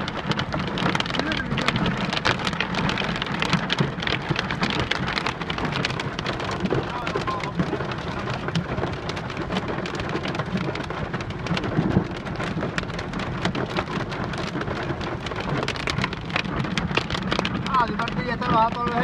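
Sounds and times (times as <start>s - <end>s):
heavy rain on hard surface: 0.0s - 19.0s.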